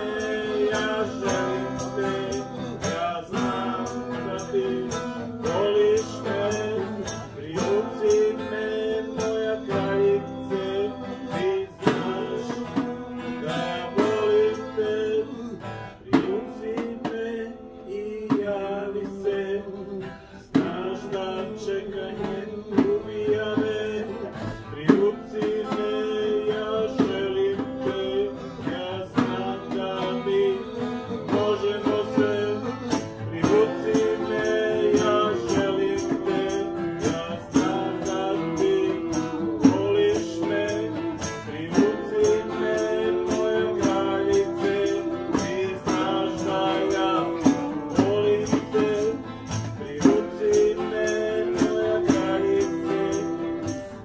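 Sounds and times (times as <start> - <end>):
group singing in unison: 0.0 - 19.6, 20.5 - 54.0
guitar strumming: 0.0 - 54.0.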